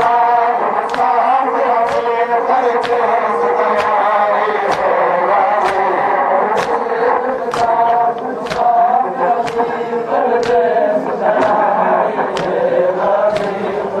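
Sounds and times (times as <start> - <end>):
chest-beating strikes: 0.0 - 14.0
crowd of men chanting: 0.0 - 14.0.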